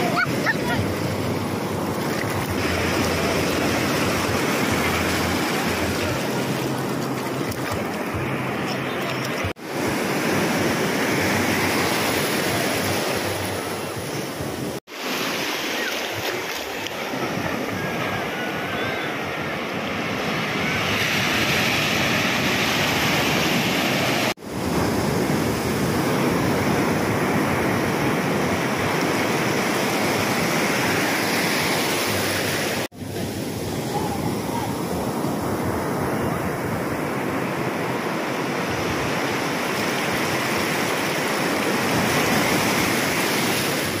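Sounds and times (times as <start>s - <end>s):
sea surf breaking on beach: 0.0s - 44.0s.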